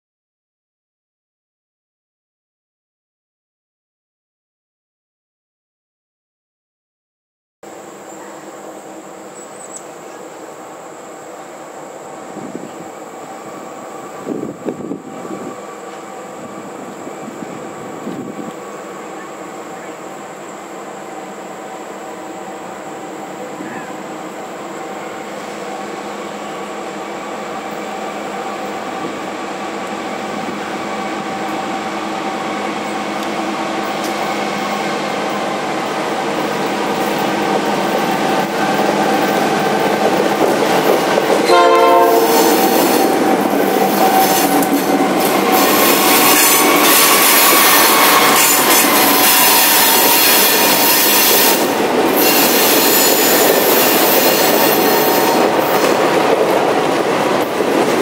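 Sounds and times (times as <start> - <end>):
diesel locomotives passing: 7.7 - 58.0.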